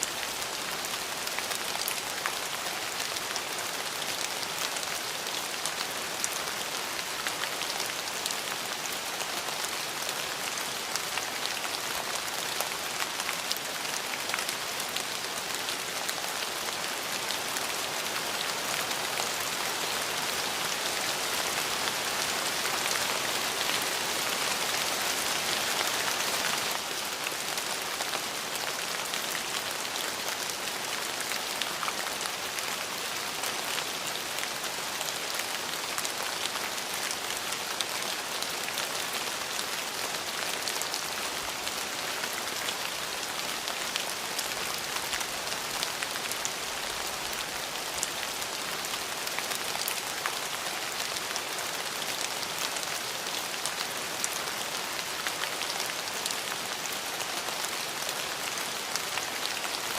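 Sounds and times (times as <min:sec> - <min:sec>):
rain pattering on a surface: 0:00.0 - 0:59.9.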